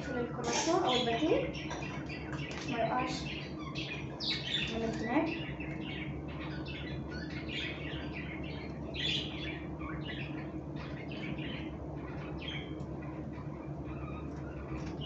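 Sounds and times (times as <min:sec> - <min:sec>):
birds chirping and squawking: 0:00.0 - 0:15.0
steady low hum: 0:00.0 - 0:15.0.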